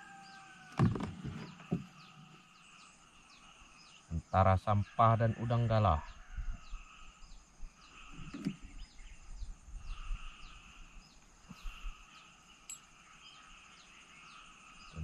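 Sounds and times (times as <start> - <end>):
bird chirping: 0.0 - 15.0
high insect drone: 0.0 - 15.0.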